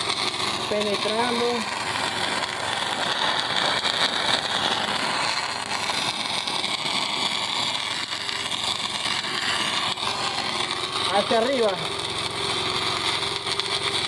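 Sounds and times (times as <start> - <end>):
welding arc crackling and sizzling: 0.0 - 14.0.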